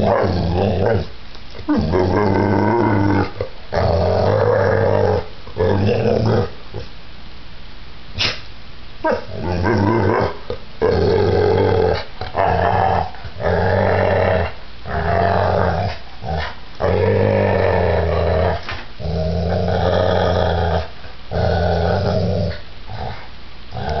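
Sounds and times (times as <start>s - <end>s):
dog growling playfully: 0.0s - 6.9s, 9.0s - 24.0s.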